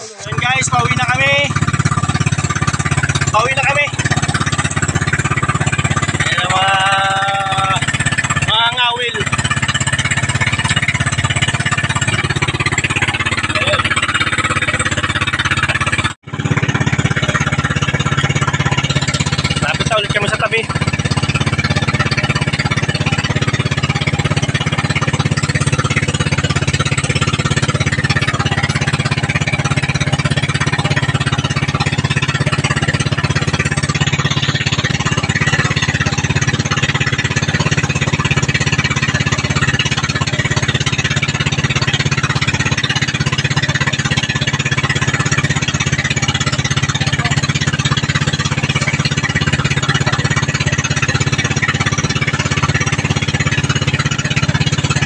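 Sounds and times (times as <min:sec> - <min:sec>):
small boat engine running: 0:00.0 - 0:55.0.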